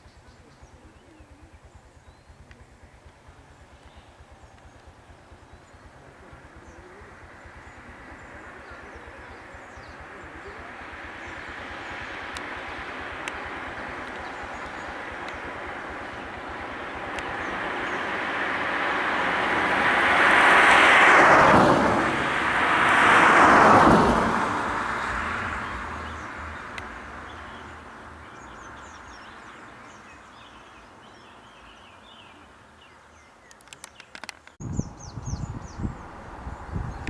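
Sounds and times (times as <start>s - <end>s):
birds chirping faintly: 0.0s - 19.2s, 24.8s - 37.0s
vehicles passing: 0.0s - 37.0s.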